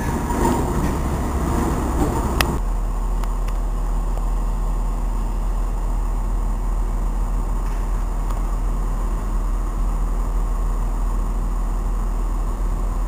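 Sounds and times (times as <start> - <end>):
train approaching platform: 0.0 - 13.0
train rumbling through station: 0.0 - 13.0.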